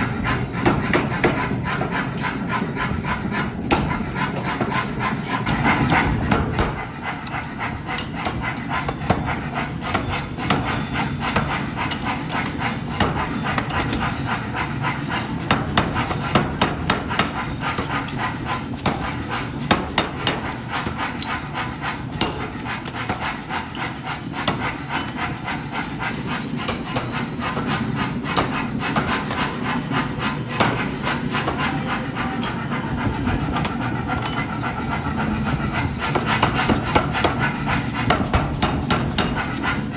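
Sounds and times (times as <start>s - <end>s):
hammer striking metal: 3.6s - 39.9s.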